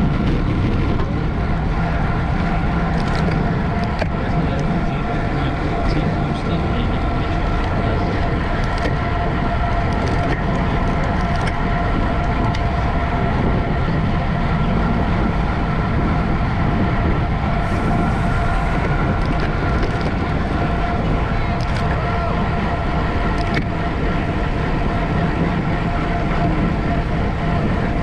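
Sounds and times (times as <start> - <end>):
wind rush on microphone: 0.0 - 28.0.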